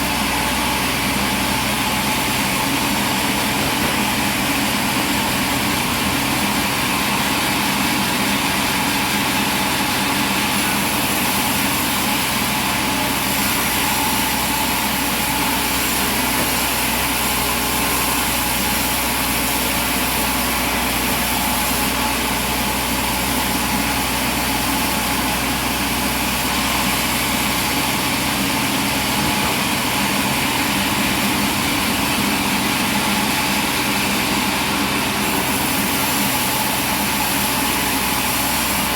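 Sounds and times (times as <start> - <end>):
machinery engine running: 0.0 - 38.9.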